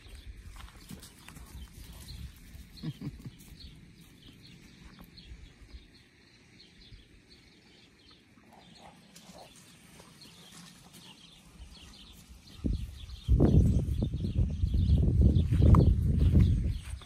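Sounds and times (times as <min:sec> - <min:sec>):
leaves rustling against microphone: 0:00.0 - 0:06.0, 0:08.4 - 0:17.0.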